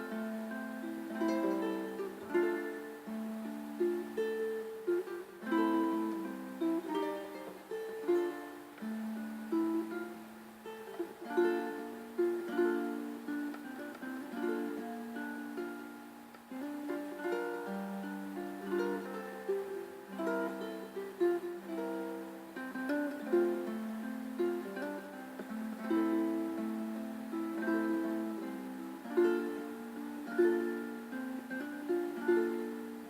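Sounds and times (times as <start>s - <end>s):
plucked string instrument melody: 0.0s - 33.0s.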